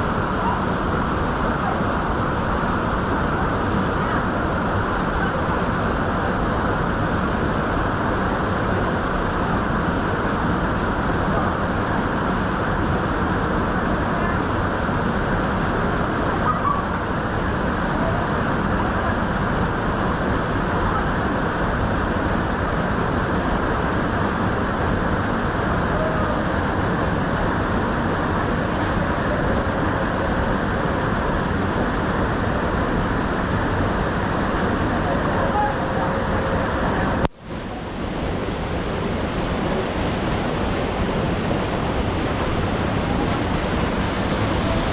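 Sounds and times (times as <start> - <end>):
waterfall roar: 0.0 - 44.9.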